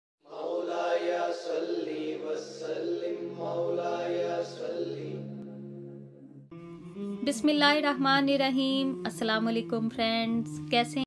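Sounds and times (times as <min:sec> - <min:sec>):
voice chanting: 0:00.3 - 0:09.8.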